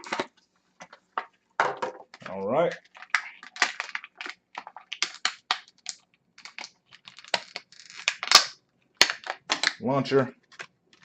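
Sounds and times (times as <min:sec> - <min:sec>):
plastic packaging clicks and crinkles: 0:02.0 - 0:11.0.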